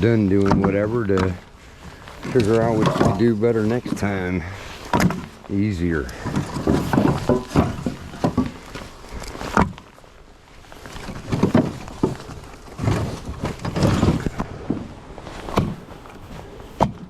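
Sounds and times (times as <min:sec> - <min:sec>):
firewood clunking together: 0:00.0 - 0:17.0.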